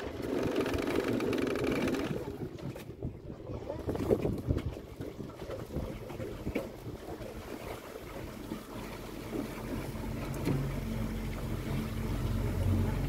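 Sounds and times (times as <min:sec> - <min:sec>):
boat engine low hum: 0:00.0 - 0:13.0
water noise: 0:00.0 - 0:13.0
wind: 0:00.0 - 0:13.0.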